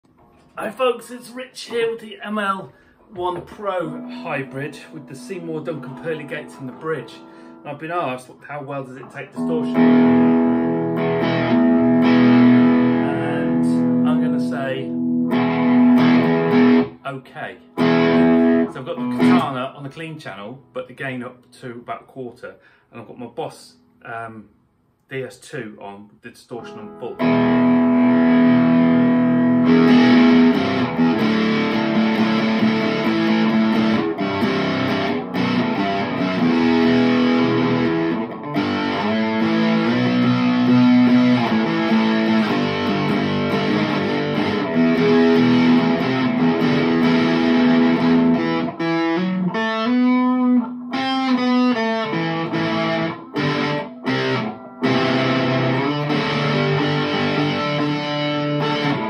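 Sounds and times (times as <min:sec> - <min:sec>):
distorted electric guitar chords: 0:02.8 - 0:07.8, 0:09.0 - 0:17.0, 0:17.6 - 0:19.6, 0:26.7 - 0:59.0.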